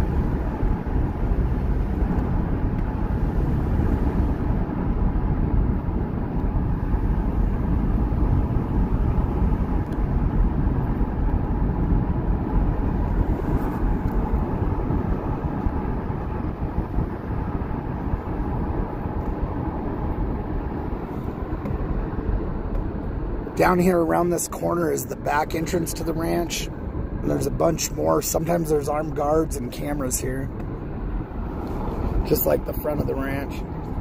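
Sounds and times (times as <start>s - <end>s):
tyre and wind noise in car: 0.0s - 34.0s.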